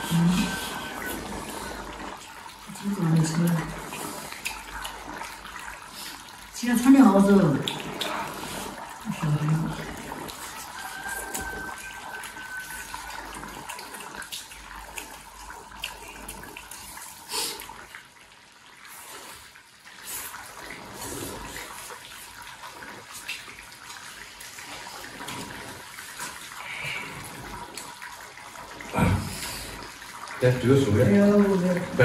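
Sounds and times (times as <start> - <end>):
soup simmering and bubbling: 0.0 - 32.0.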